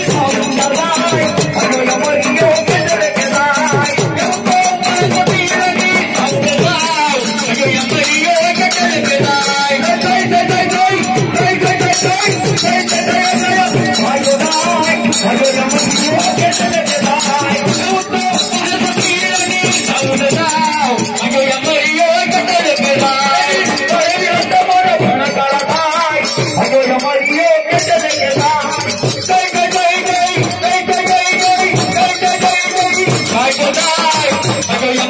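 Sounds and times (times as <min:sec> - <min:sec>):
fast rattling percussion music: 0:00.0 - 0:35.0
wavering melody: 0:00.0 - 0:35.0.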